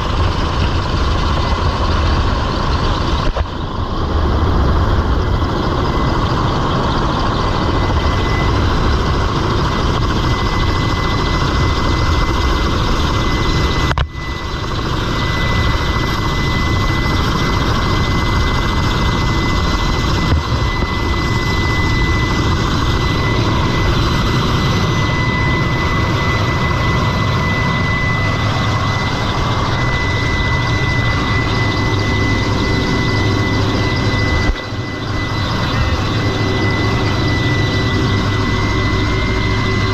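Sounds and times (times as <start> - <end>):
helicopter engine and rotor: 0.0 - 39.9
high engine whine: 0.0 - 39.9.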